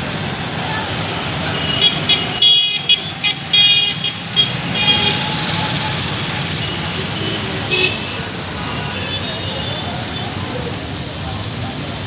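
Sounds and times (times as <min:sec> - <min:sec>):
busy road traffic: 0:00.0 - 0:12.0.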